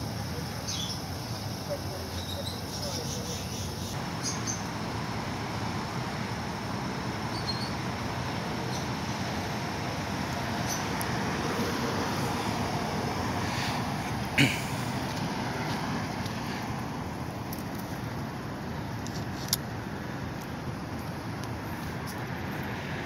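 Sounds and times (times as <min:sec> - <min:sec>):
traffic rumble and hiss: 0:00.0 - 0:23.0.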